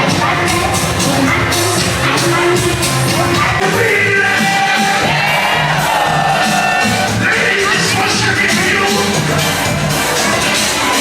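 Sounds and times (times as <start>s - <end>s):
crowd noise: 0.0s - 11.0s
electronic dance music: 0.0s - 11.0s.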